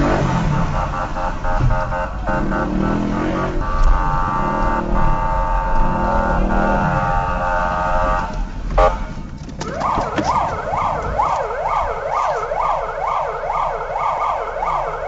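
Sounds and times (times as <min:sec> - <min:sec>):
police siren wailing: 0:00.0 - 0:09.0, 0:09.6 - 0:15.0.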